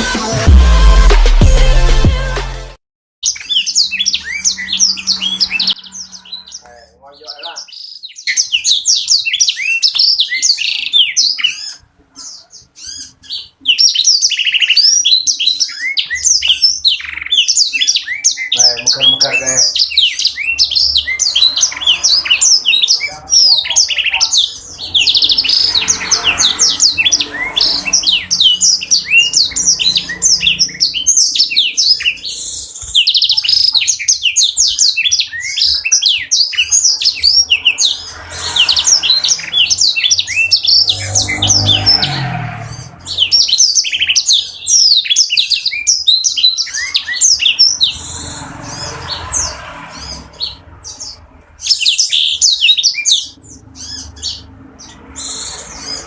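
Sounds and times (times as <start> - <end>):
canary singing twittering song: 3.2 - 56.0.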